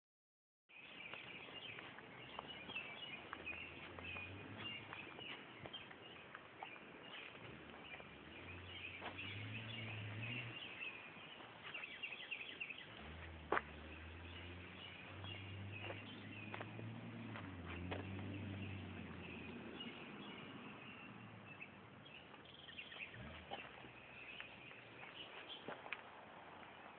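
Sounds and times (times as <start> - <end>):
birds chirping: 0.7 - 26.9.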